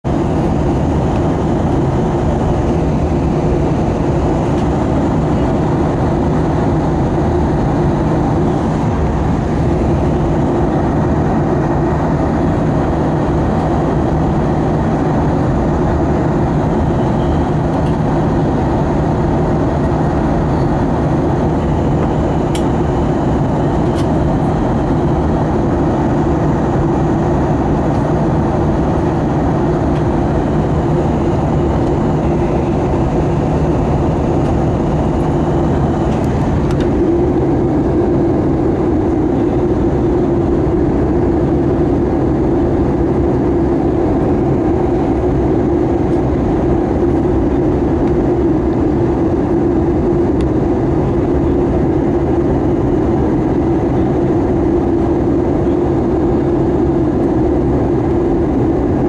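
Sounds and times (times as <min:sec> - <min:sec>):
engine and airflow rush: 0:00.0 - 0:59.0.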